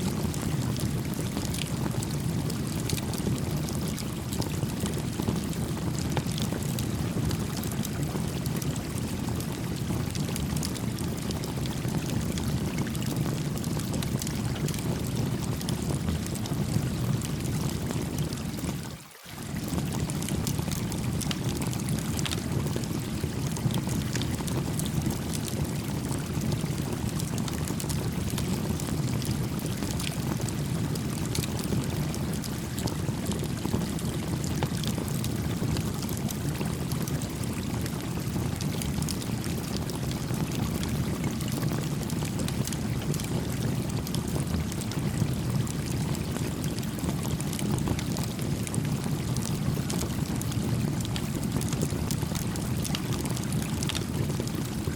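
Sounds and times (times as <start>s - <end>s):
campfire crackling and popping: 0.1s - 18.8s, 19.5s - 54.9s.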